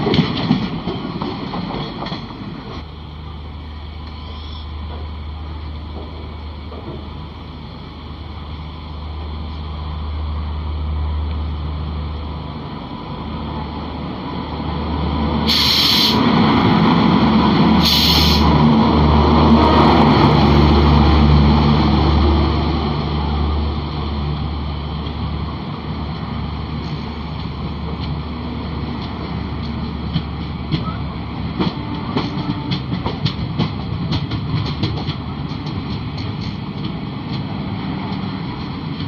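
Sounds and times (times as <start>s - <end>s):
passing train rumble: 0.0s - 39.0s
train running noise: 0.0s - 39.0s.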